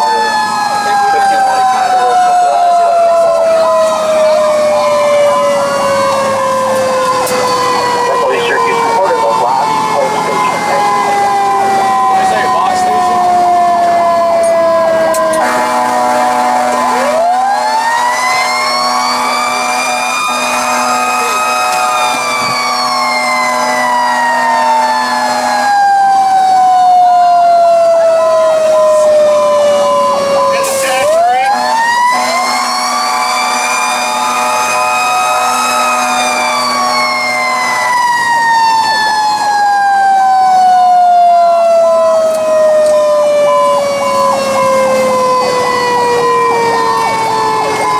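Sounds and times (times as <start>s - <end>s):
electronic siren tone: 0.0s - 47.9s.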